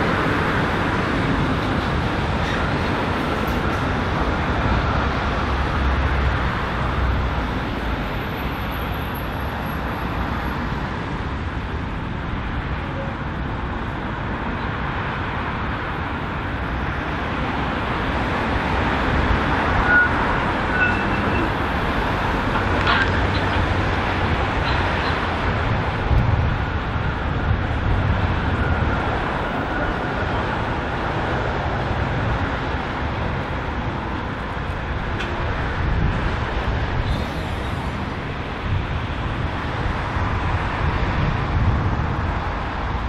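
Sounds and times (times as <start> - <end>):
road traffic passing: 0.0 - 43.0
tram running along track: 0.0 - 43.0.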